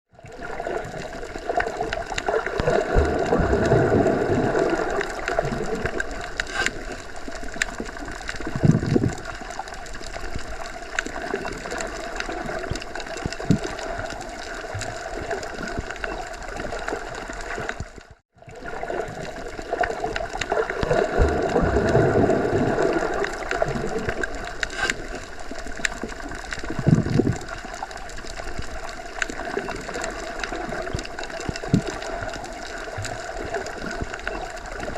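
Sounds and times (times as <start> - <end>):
underwater rumble and bubbling: 0.1 - 34.9
faint underwater clicks: 0.4 - 18.2, 18.8 - 34.9.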